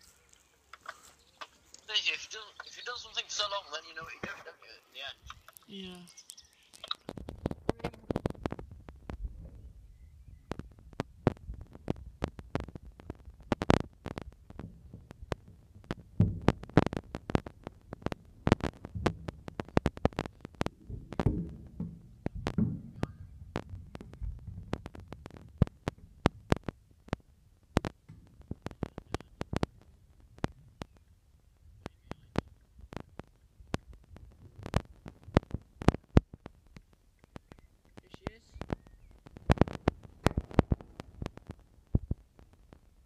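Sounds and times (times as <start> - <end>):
wind buffeting microphone: 6.8 - 42.6.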